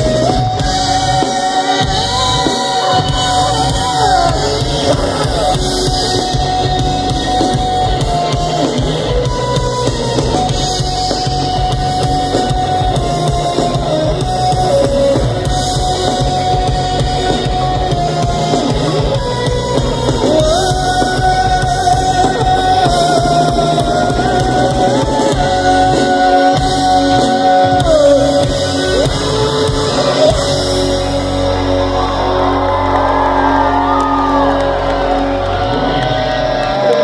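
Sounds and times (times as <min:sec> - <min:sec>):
live rock band playing: 0:00.0 - 0:37.0
sung vocals: 0:00.0 - 0:37.0.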